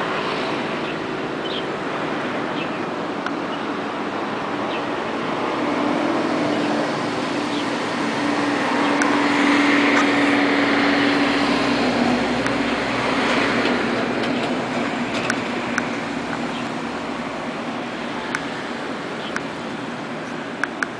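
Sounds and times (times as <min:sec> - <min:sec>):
vehicle engine passing by: 0:00.0 - 0:20.6
road traffic: 0:00.0 - 0:20.9.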